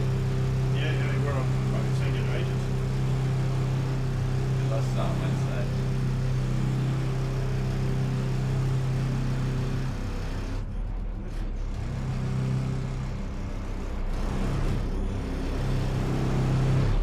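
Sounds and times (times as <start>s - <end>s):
boat engine hum: 0.0s - 17.0s.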